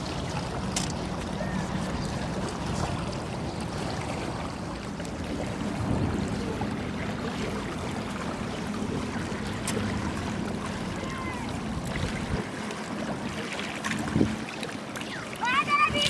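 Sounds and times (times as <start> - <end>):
wind rumbling on microphone: 0.0 - 12.5, 13.9 - 14.4.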